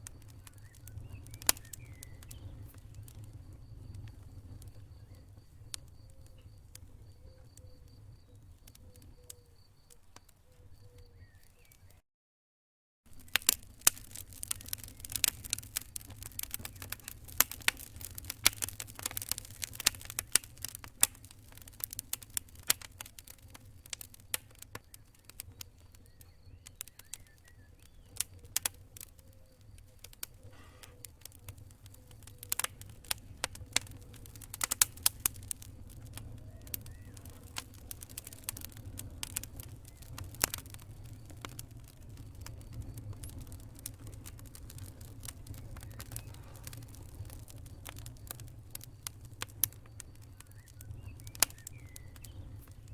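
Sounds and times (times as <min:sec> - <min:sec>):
low steady rumble of fire: 0:00.0 - 0:11.9, 0:13.1 - 0:52.9
campfire crackling and popping: 0:00.0 - 0:12.0, 0:13.1 - 0:52.9.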